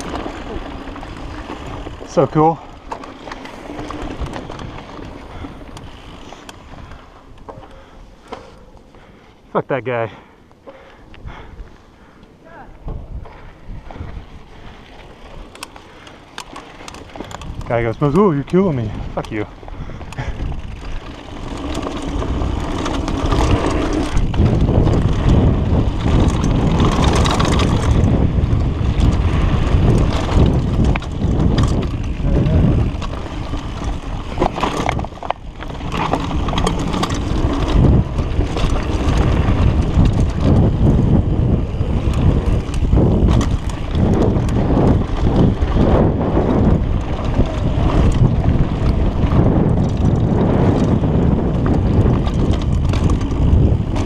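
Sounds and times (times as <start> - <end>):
wind rumbling on microphone: 0.0 - 9.9, 10.7 - 54.0
bike rattling over bumps: 0.0 - 54.0
tyres running over dirt: 0.0 - 54.0.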